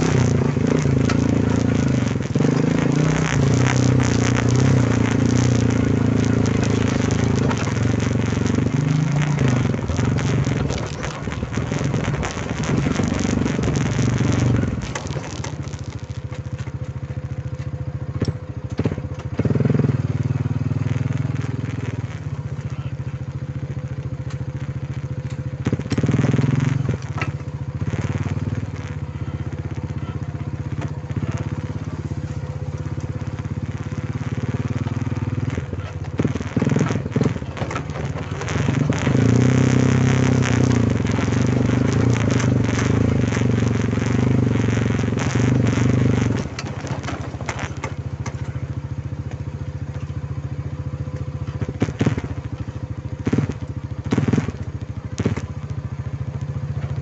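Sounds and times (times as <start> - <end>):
crackling and knocking noise: 0.0 - 57.0
quad bike engine running: 0.0 - 57.0.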